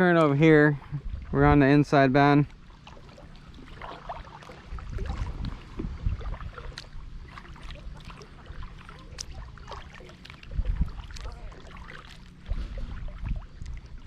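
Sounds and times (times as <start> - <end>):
steady low rumble: 0.0 - 14.0
paddle splashing in water: 2.4 - 14.0.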